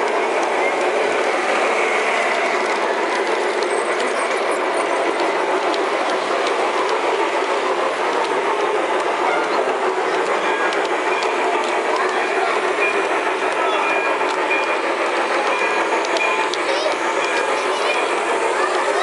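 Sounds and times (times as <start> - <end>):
model train wheels rattling: 0.0 - 19.0.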